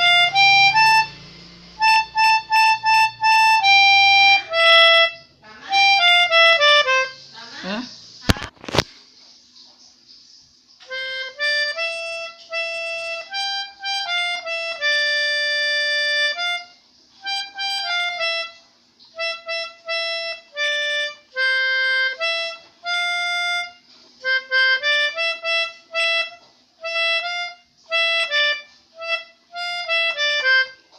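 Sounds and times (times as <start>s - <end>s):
melodica playing a tune: 0.0s - 8.9s, 10.8s - 30.9s.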